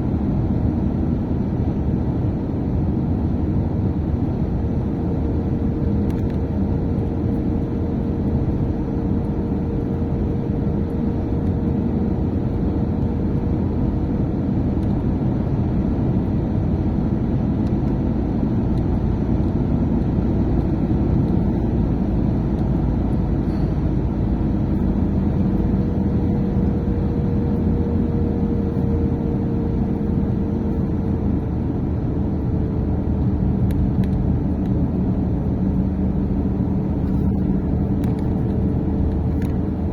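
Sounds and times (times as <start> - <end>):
vehicle road noise from inside: 0.0 - 39.9.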